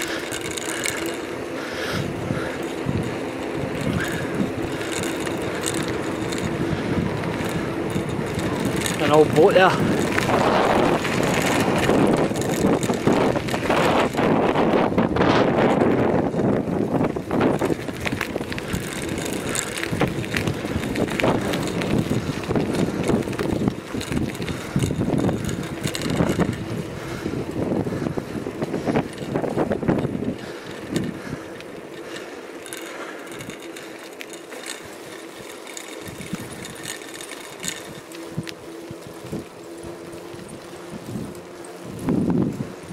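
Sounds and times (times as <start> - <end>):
bicycle tyre noise: 0.0 - 42.9
small rattles and clicks: 0.0 - 42.9
wind buffeting microphone: 0.0 - 42.9.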